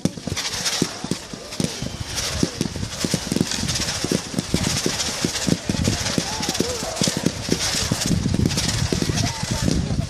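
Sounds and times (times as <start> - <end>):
fireworks bangs and pops: 0.0 - 10.0
fireworks crackle: 0.0 - 10.0.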